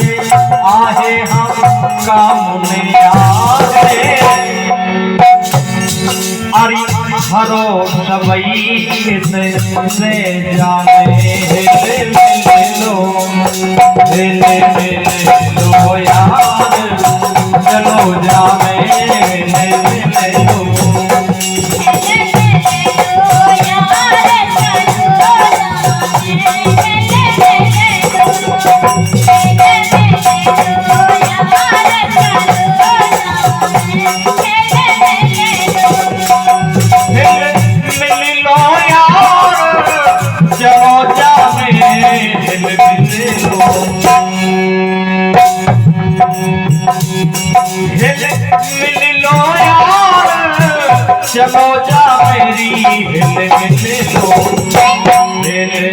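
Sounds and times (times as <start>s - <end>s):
drums: 0.0s - 55.9s.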